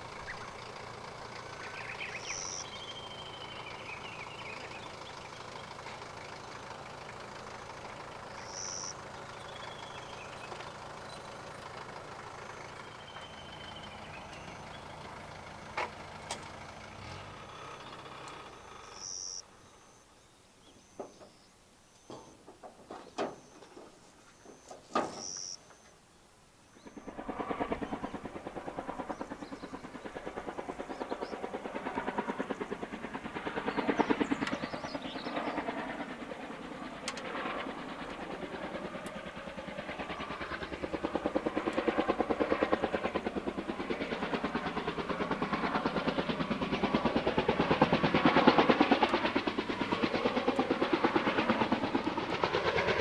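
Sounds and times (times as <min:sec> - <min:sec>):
helicopter rotors throbbing: 0:00.0 - 0:20.0, 0:26.7 - 0:53.0.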